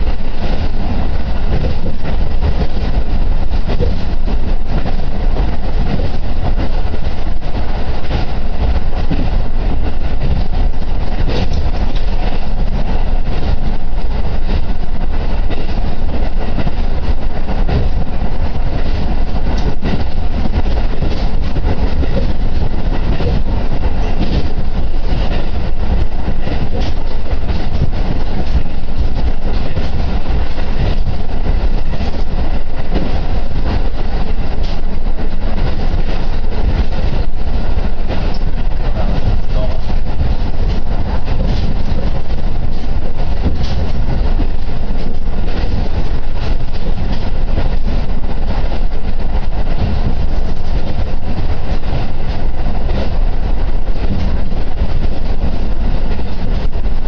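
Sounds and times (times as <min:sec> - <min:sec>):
railcar rumbling: 0:00.0 - 0:57.0.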